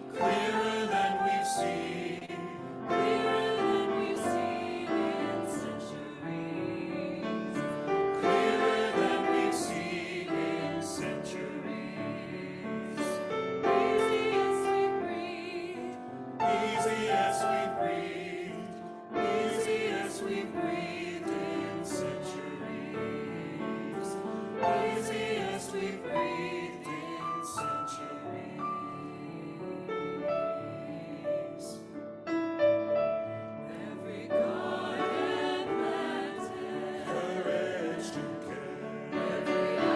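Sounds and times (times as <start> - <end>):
choir singing in harmony: 0.0 - 32.2, 33.1 - 39.9.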